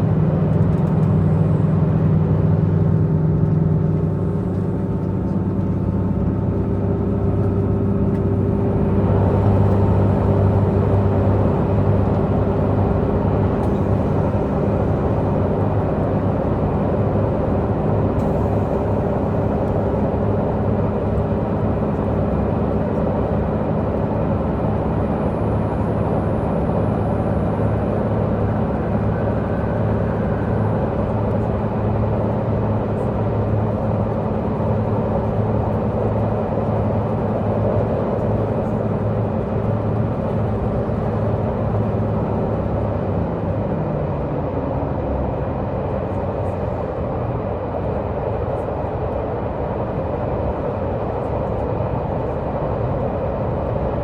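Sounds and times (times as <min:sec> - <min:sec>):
train diesel engine hum: 0:00.0 - 0:54.0
wheel and rail rumble: 0:00.0 - 0:54.0.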